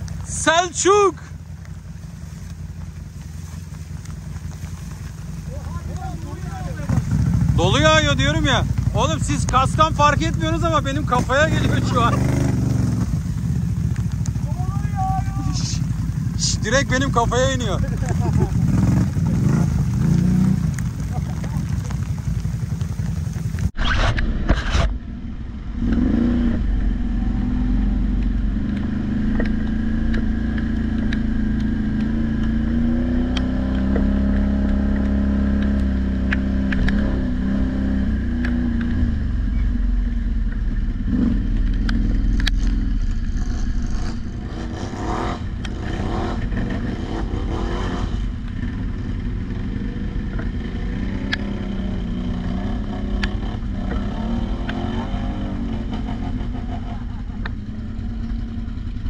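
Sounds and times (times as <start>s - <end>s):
atv engine running: 0.0s - 59.0s
wind and rumble: 0.0s - 59.0s.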